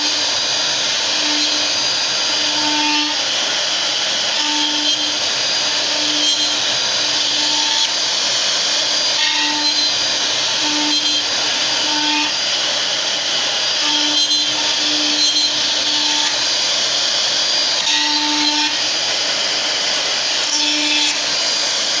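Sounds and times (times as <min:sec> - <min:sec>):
cnc router running: 0:00.0 - 0:22.0.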